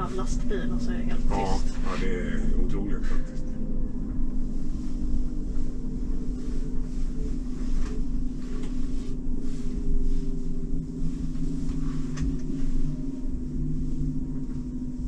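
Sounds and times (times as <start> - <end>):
electric driveline hum: 0.0 - 15.0.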